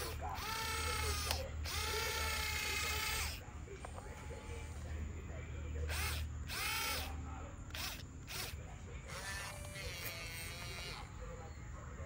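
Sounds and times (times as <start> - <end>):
small electric motors whirring: 0.0 - 4.7, 5.9 - 11.2.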